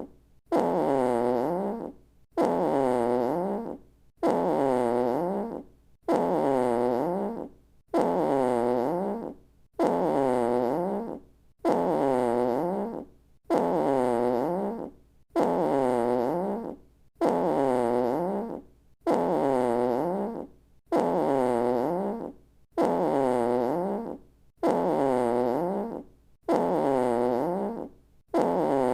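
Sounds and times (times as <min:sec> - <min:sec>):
comic fart sound effect: 0:00.0 - 0:28.9.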